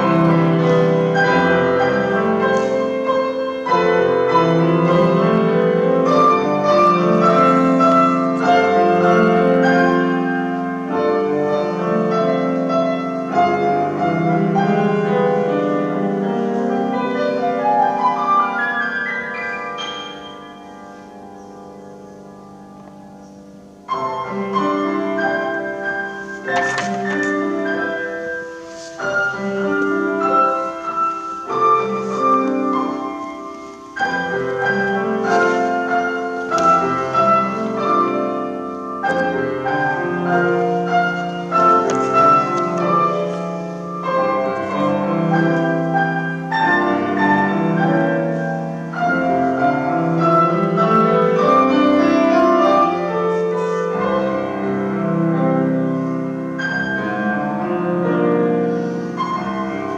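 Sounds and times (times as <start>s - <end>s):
grand piano classical piece: 0.0s - 59.9s.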